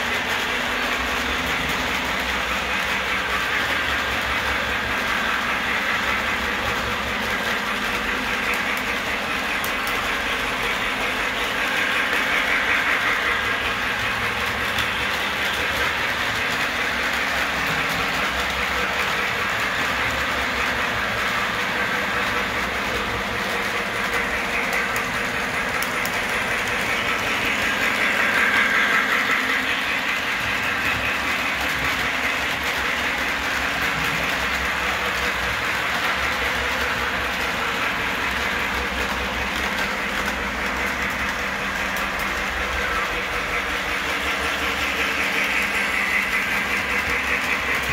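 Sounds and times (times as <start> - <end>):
model train motors whirring: 0.0 - 47.9
wheels rattling on track: 0.0 - 47.9.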